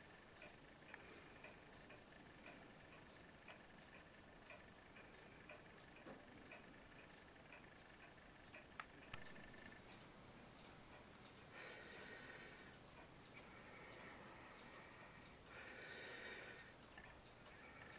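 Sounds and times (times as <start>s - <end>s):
clock ticking: 0.0s - 17.9s.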